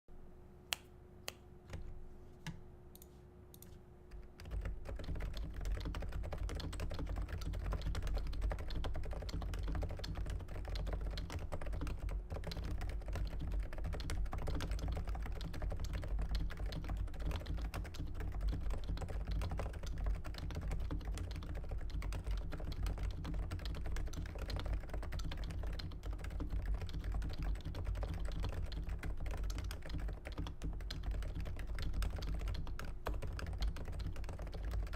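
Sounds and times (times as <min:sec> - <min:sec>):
faint steady hum: 0:00.1 - 0:34.9
fast keyboard typing: 0:04.1 - 0:34.9.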